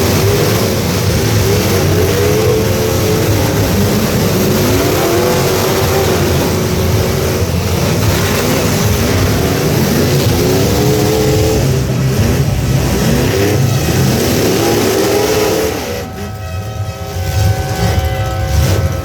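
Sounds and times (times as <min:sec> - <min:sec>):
truck engines revving: 0:00.0 - 0:19.0.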